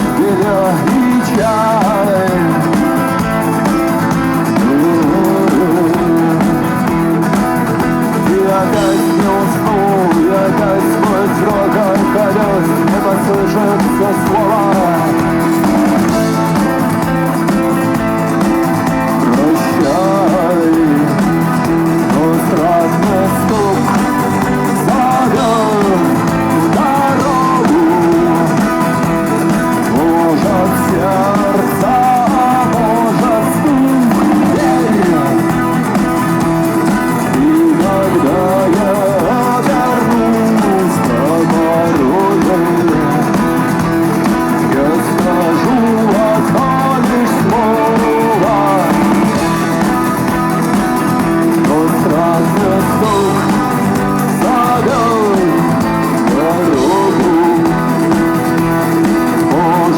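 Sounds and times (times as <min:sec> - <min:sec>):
bass guitar: 0:00.0 - 0:59.9
drums: 0:00.0 - 0:59.9
lead guitar with bending notes: 0:00.0 - 0:59.9.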